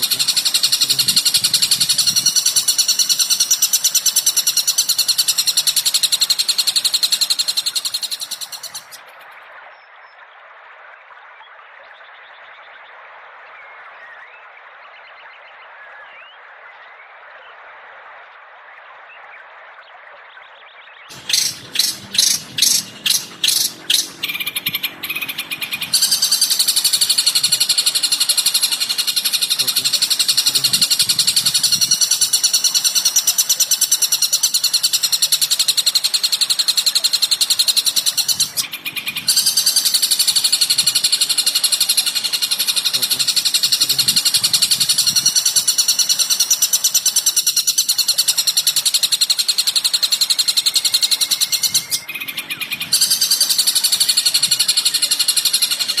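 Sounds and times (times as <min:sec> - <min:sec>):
recorded bird song trill: 0:00.0 - 0:56.0.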